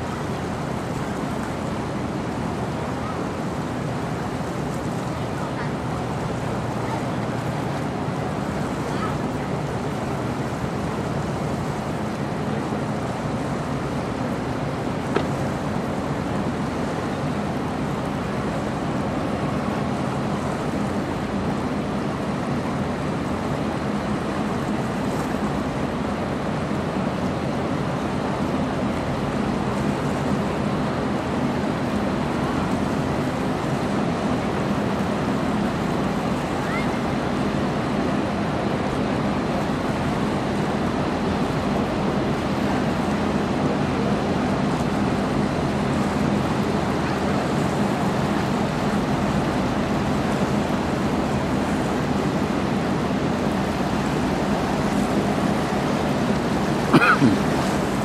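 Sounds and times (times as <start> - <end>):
choppy water: 0.0 - 58.0
ship engine drone: 0.0 - 58.0.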